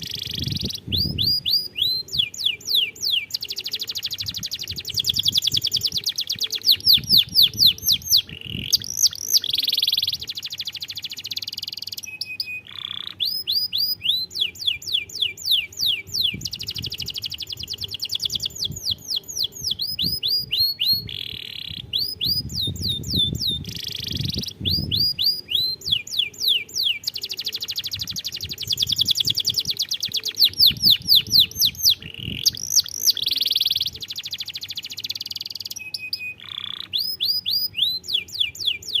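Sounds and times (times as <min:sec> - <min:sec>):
canary singing trills: 0:00.0 - 0:39.0.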